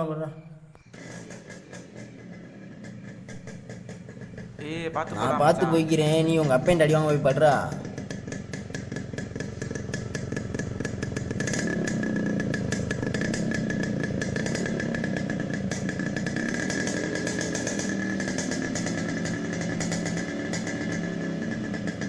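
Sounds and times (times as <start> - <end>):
motorcycle engine ticking: 0.8 - 4.7, 6.0 - 22.0.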